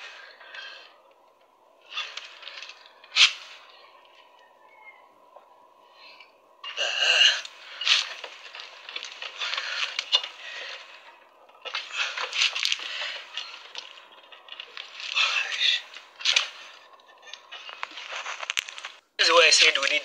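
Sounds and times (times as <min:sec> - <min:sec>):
rustling and scraping handling noise: 0:00.0 - 0:04.5, 0:05.1 - 0:20.0.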